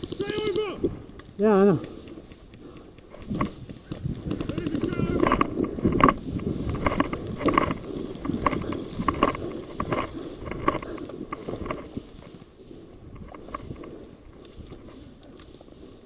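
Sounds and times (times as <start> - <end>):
crunch and rustle of gear: 0.0 - 16.0.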